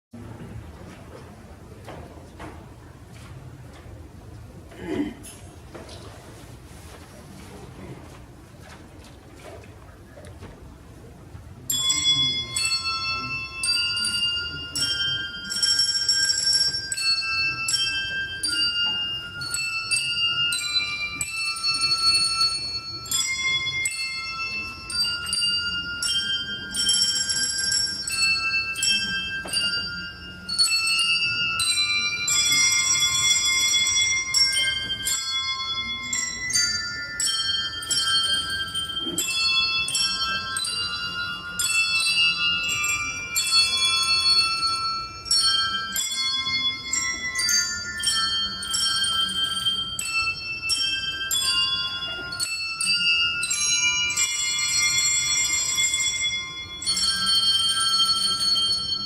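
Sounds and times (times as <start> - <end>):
handbells ringing a melody: 11.7 - 59.0.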